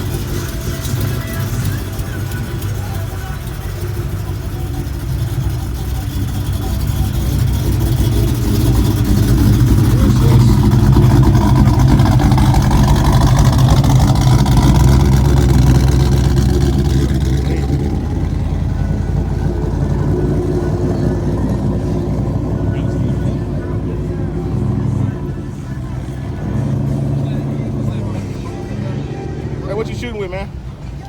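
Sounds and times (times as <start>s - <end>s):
vehicle engine driving past: 0.0s - 31.0s.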